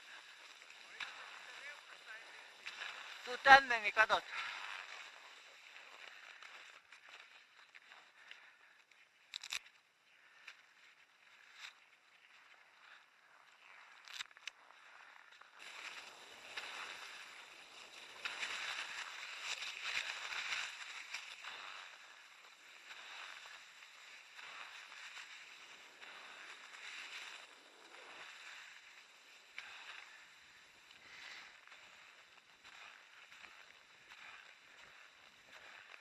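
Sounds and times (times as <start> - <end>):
skis swishing on snow: 0.0 - 9.3, 10.0 - 36.0
ski pole plants: 0.0 - 36.0.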